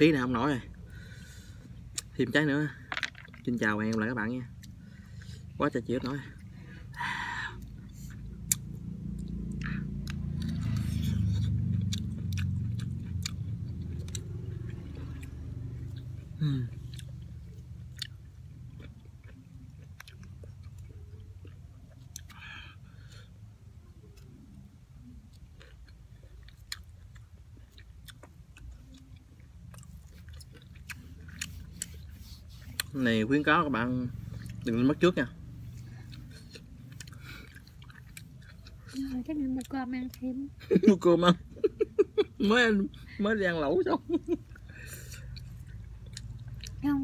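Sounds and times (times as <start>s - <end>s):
low steady hum: 0.0s - 47.0s
person chewing fruit: 0.1s - 47.0s.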